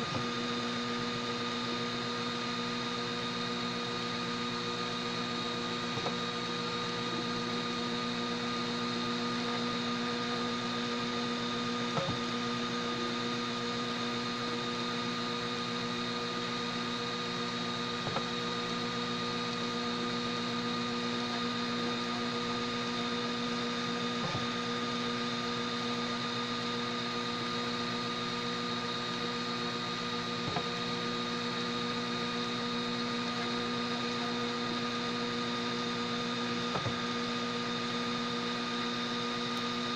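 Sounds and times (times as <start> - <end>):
three d printer mechanical hum: 0.0 - 39.9.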